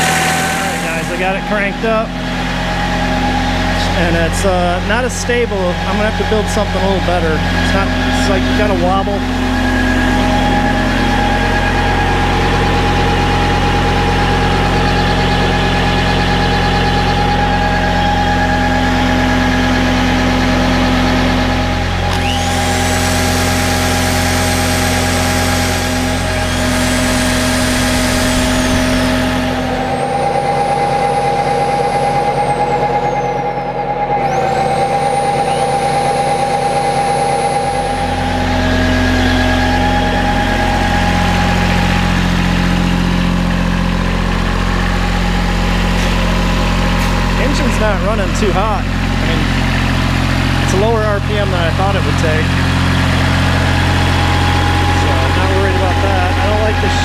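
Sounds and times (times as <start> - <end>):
electric drill whining: 0.0 - 48.1, 52.4 - 57.0
tractor diesel engine running: 0.0 - 57.0.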